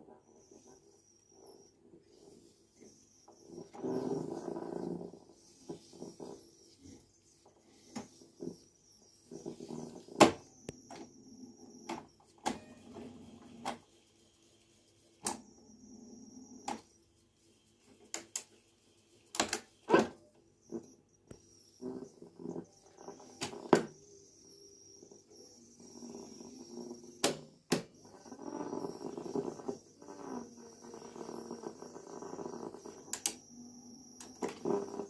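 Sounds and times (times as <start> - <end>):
tape reels whirring: 0.1 - 35.0.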